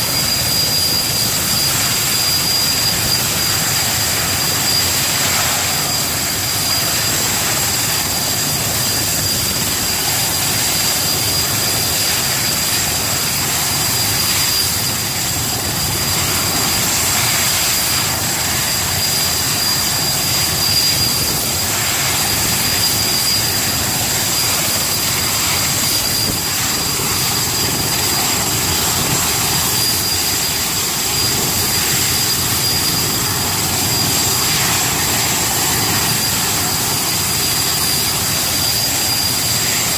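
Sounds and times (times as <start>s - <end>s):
helicopter rotor and engine rush: 0.0s - 39.9s
helicopter turbine whine: 0.0s - 39.9s.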